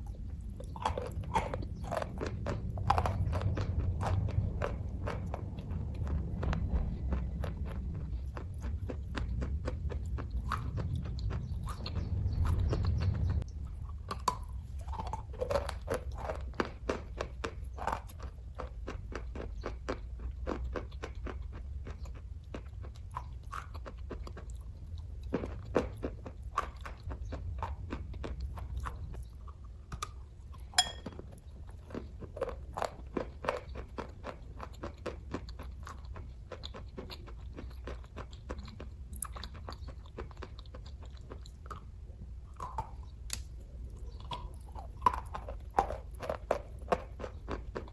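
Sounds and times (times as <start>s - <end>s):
chewing with wet mouth clicks: 0.0s - 47.9s
steady low hum: 0.0s - 47.9s.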